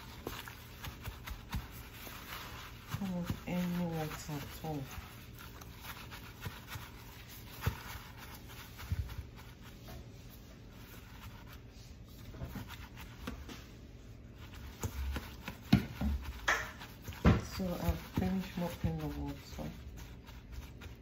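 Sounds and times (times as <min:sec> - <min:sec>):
paper towel rubbing and rustling: 0:00.0 - 0:21.0.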